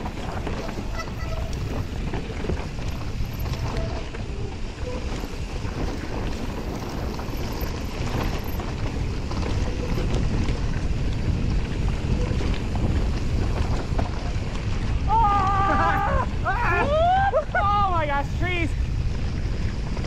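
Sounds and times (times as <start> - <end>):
bikes rattling clicks: 0.0 - 20.0
tyres rumbling on dirt: 0.0 - 20.0
wind rushing over microphone: 0.0 - 20.0.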